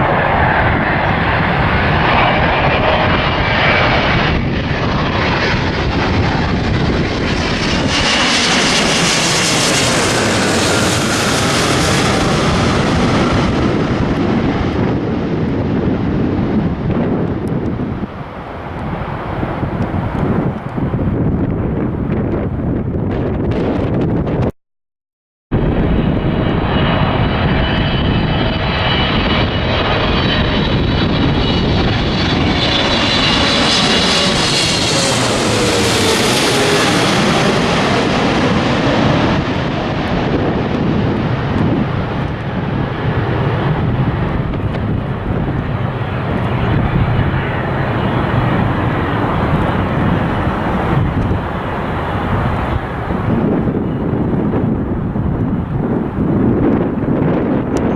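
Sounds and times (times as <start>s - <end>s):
jet airliner passing: 0.0s - 24.5s, 25.5s - 57.9s
wind buffeting microphone: 0.0s - 24.5s, 25.5s - 57.9s.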